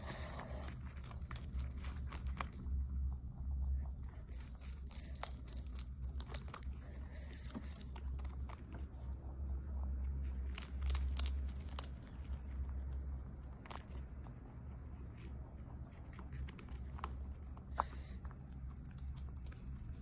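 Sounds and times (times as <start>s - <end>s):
low steady hum: 0.0s - 20.0s
rabbit chewing crispy leaf: 0.0s - 20.0s.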